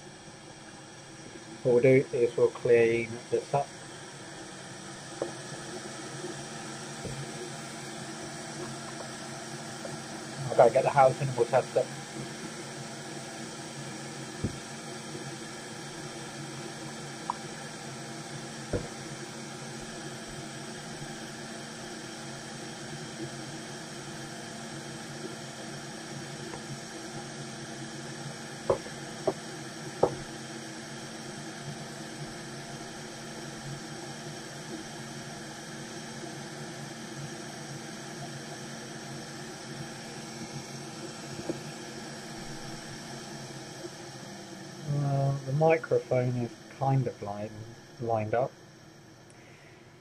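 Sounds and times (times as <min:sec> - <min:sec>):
steady hiss: 0:00.0 - 0:44.0, 0:44.7 - 0:50.0.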